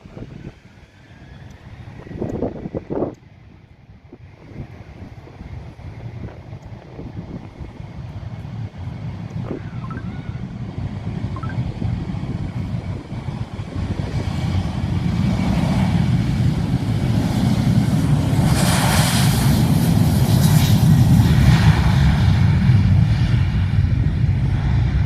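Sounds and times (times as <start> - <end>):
aircraft engine roar: 0.0 - 25.0.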